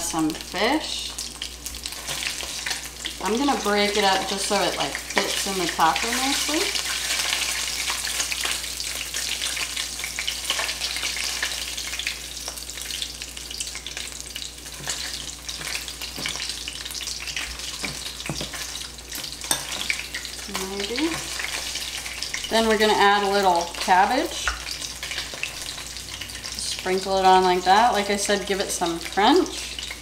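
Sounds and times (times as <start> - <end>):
fish frying in hot oil: 0.0 - 30.0.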